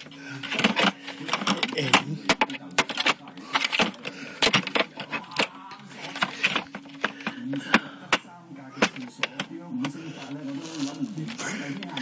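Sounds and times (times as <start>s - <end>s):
plastic clicks and rattles: 0.0s - 10.0s.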